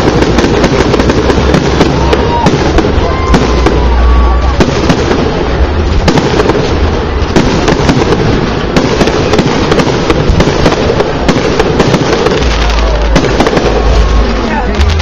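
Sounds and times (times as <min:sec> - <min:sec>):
fireworks bursting: 0:00.0 - 0:15.0
fireworks crackling: 0:00.0 - 0:15.0.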